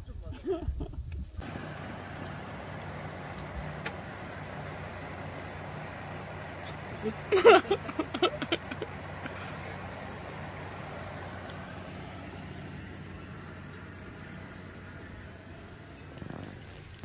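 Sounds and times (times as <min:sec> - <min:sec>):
electric fan humming: 0:00.8 - 0:17.0.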